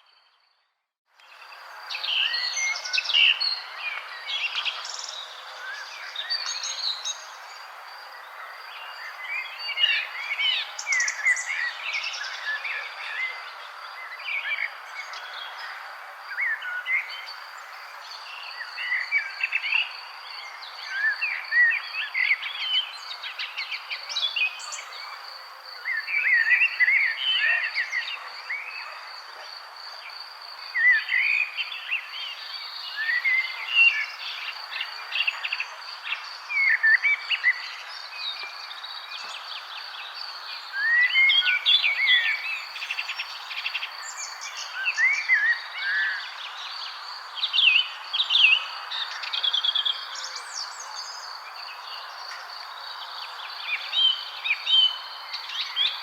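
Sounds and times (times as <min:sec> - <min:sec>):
songbirds chirping and warbling: 0:00.0 - 0:56.0.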